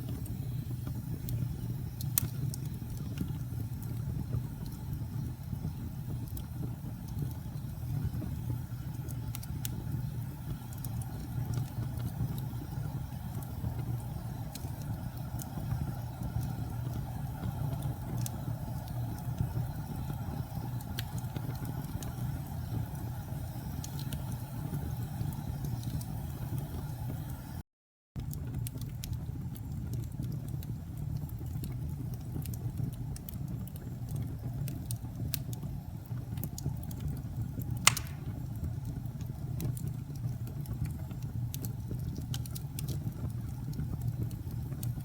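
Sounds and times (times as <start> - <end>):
fire crackling and popping: 0.0 - 27.6, 28.2 - 45.0
fire flames rumbling: 0.0 - 27.6, 28.2 - 45.0.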